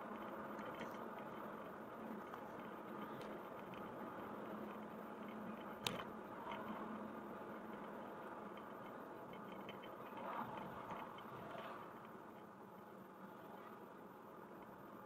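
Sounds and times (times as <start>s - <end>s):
car road noise: 0.0s - 15.0s.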